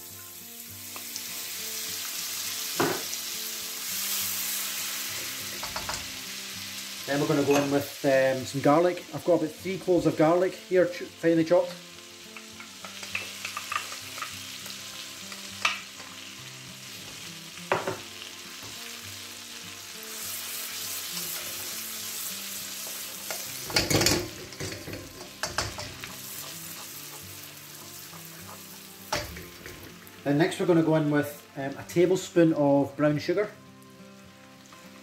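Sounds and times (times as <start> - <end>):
garlic sizzling in wok: 0.0 - 35.0.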